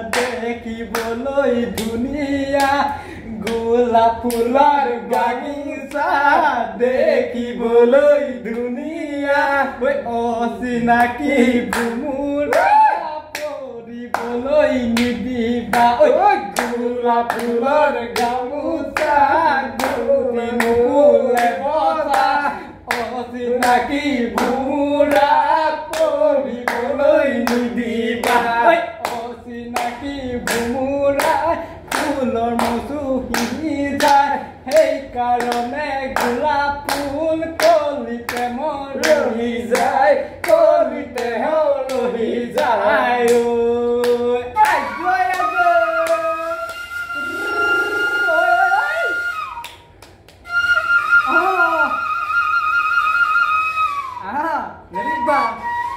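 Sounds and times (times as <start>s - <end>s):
hand claps keeping a beat: 0.0s - 6.5s, 7.1s - 9.0s, 10.8s - 46.9s, 49.6s - 51.4s
people singing: 0.0s - 48.4s.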